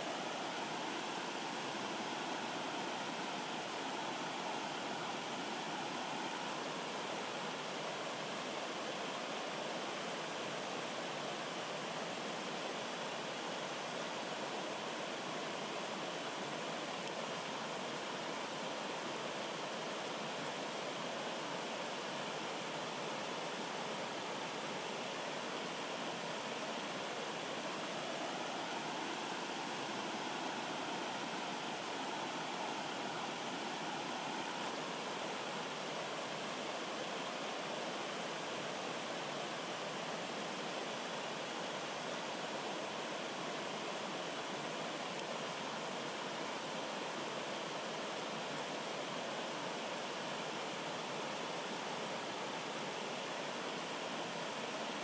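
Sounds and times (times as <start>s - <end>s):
rushing stream water: 0.0s - 55.0s.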